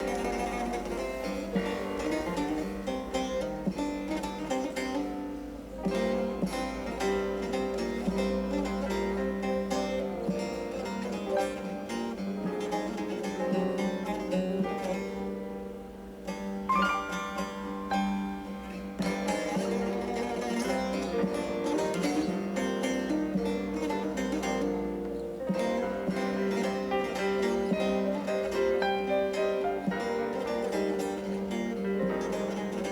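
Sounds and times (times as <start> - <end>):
plucked string melody: 0.0 - 32.9.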